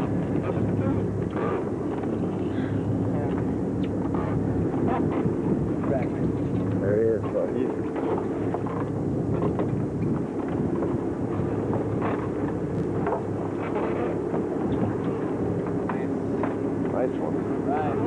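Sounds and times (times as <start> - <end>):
boat engines humming: 0.0 - 18.0
wind on microphone: 0.0 - 18.0.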